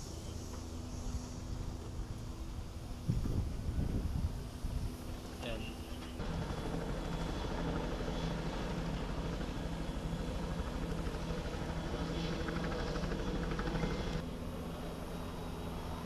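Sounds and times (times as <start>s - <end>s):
engine running with low hum: 0.0s - 16.0s.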